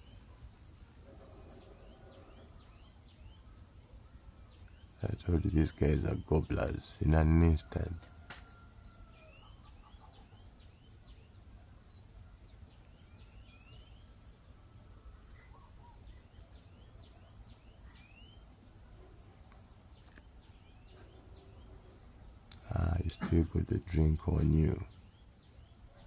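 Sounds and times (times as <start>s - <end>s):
faint bird chirps: 0.0s - 26.0s.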